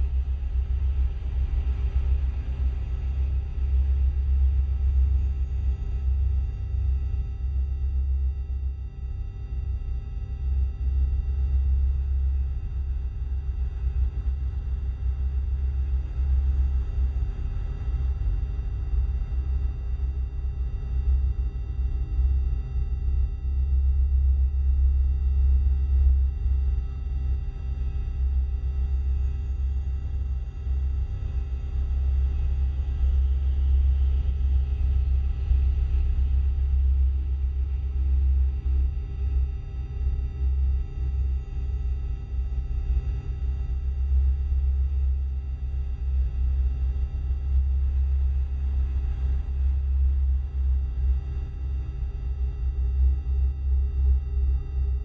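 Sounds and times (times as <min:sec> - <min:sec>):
deep rumbling drone: 0:00.0 - 0:08.2, 0:10.2 - 0:55.0.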